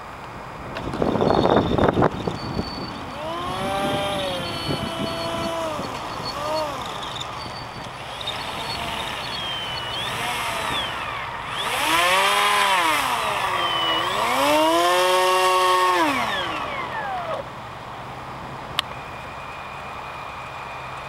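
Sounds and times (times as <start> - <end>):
electric ducted fans whining: 0.0 - 21.0.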